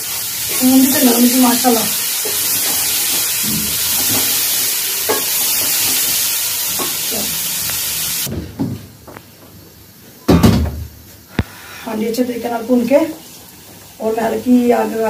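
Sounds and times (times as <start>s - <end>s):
vegetables sizzling in a pot: 0.0s - 15.0s.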